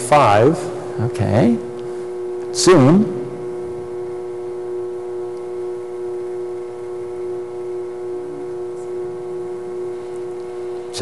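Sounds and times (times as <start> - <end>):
steady multi-tone hum: 0.0 - 11.0.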